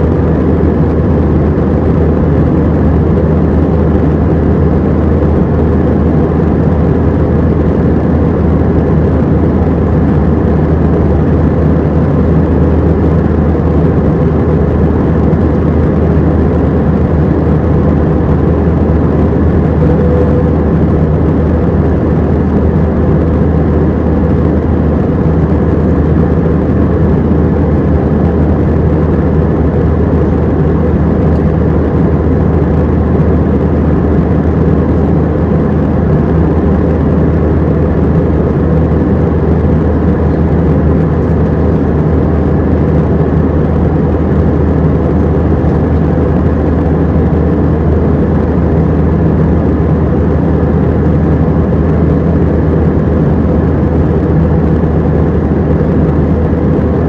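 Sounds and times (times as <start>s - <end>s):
jet engine cabin roar: 0.0s - 57.0s.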